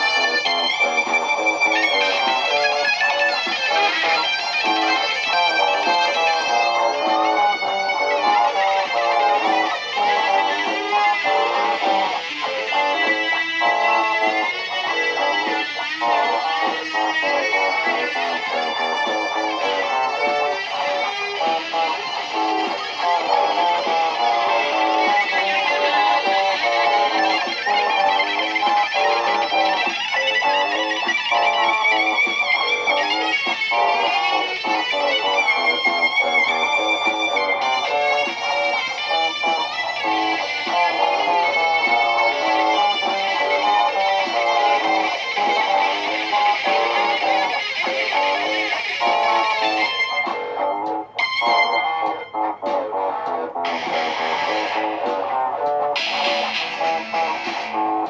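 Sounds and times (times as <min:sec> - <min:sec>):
high droning tone: 0:00.0 - 0:58.0
looped electric guitar music: 0:00.0 - 0:58.0.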